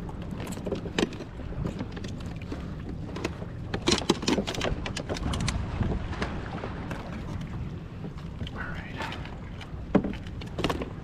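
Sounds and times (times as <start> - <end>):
low rumble of wind and water: 0.0 - 11.0.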